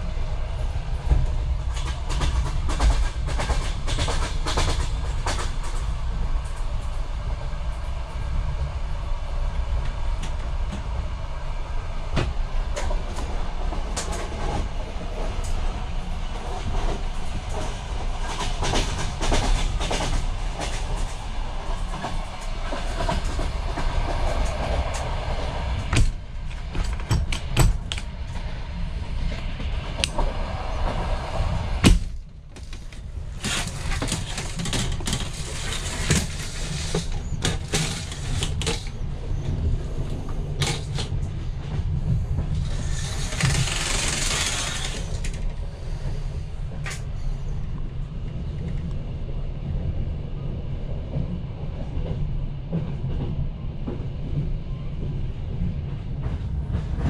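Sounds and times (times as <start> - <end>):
train coach rumble: 0.0 - 57.0.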